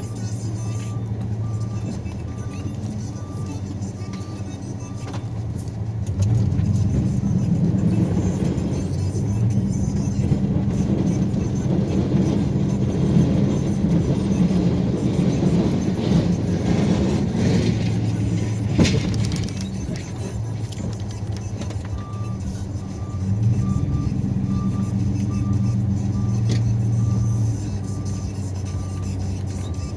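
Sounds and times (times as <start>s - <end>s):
snowplow engine running: 0.0s - 29.9s.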